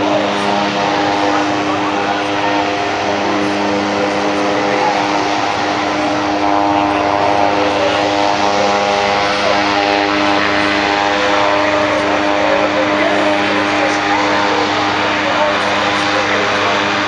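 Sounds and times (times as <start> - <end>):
jet turbine engines droning: 0.0 - 17.0.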